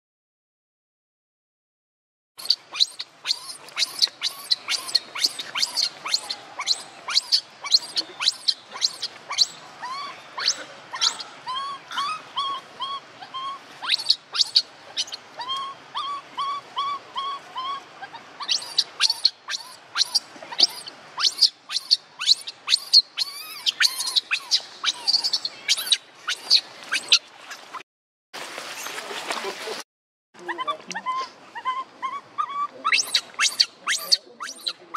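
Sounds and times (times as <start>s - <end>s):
arched animal call notes: 2.4s - 27.2s, 30.4s - 34.9s
high animal chirps: 2.4s - 27.2s, 30.5s - 34.9s.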